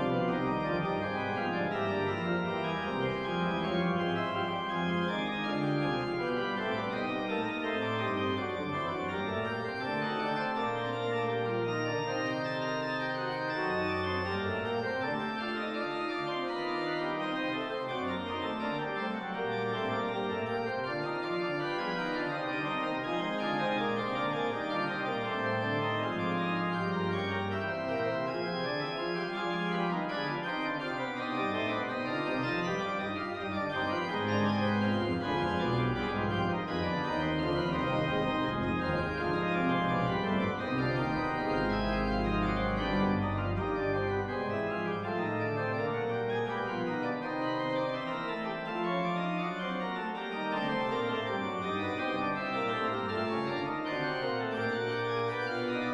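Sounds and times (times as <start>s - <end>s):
organ music: 0.0s - 55.9s.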